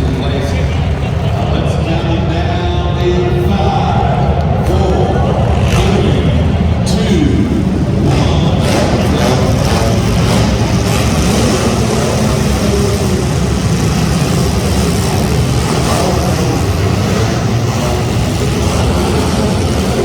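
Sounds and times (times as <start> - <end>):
race car engines roaring: 0.0 - 20.0.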